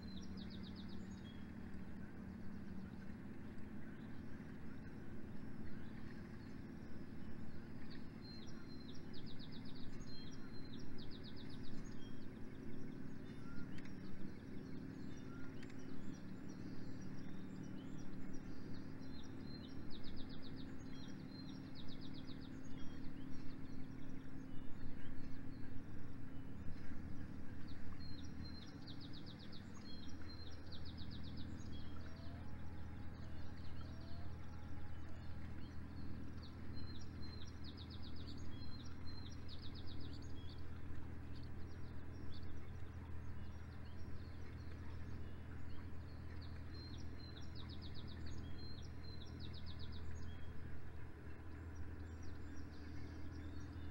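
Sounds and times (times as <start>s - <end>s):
low motor hum: 0.0s - 53.9s.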